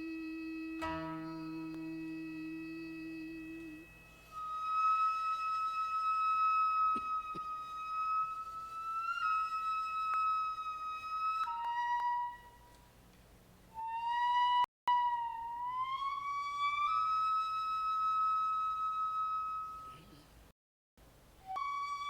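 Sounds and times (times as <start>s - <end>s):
solo flute playing ceremonial music: 0.0s - 12.9s, 13.7s - 20.1s, 21.4s - 22.0s.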